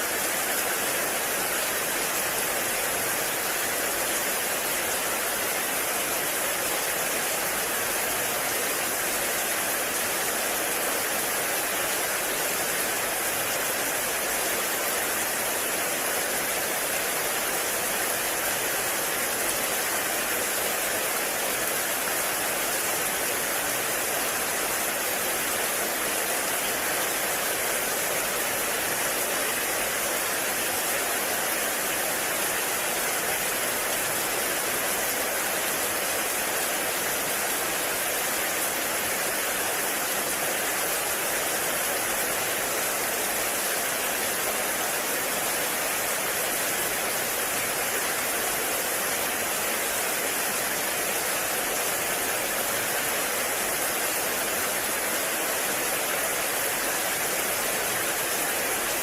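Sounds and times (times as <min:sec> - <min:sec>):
heavy rain on forest: 0:00.0 - 0:59.0.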